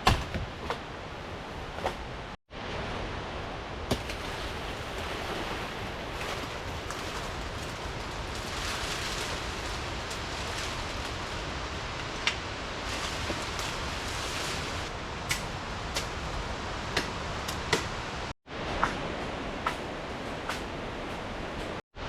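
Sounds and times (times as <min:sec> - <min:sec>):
rushing waterfall and stream: 0:00.0 - 0:22.0.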